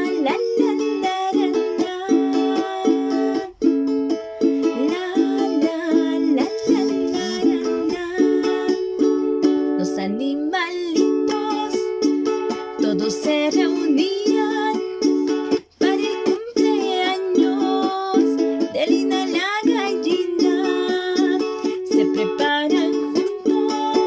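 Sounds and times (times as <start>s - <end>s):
ukulele children's song: 0.0s - 24.0s.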